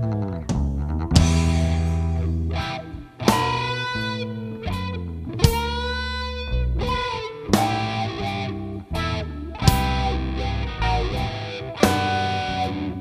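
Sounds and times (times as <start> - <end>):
guitar notes ringing: 0.0 - 13.0
low bass: 0.0 - 13.0.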